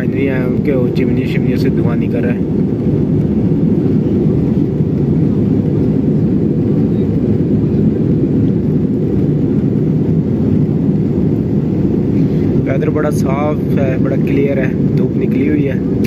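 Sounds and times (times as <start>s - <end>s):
jet airliner cabin rumble: 0.0s - 16.0s.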